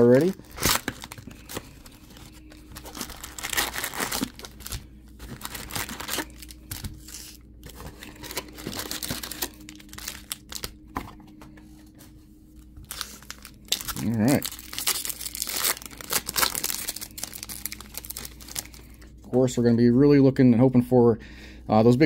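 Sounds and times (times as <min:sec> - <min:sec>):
foil packs and box crinkling: 0:00.0 - 0:11.2, 0:12.6 - 0:19.1
faint steady hum: 0:00.0 - 0:22.0.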